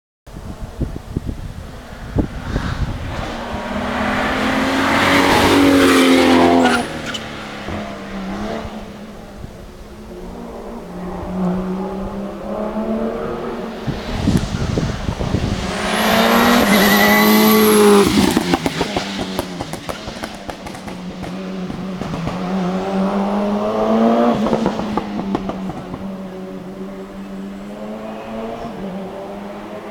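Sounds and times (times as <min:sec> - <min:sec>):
race cars accelerating past: 0:01.6 - 0:29.9.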